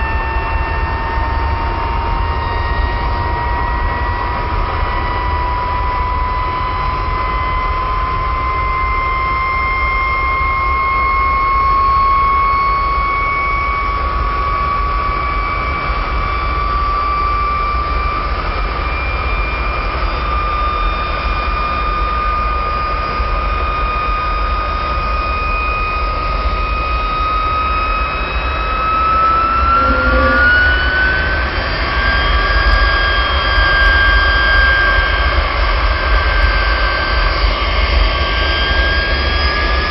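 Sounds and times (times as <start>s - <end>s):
jet engine turbine whine: 0.0s - 39.9s.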